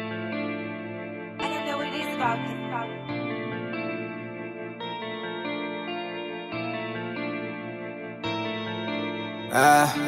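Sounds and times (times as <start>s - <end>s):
sustained chords with echo: 0.3s - 10.0s.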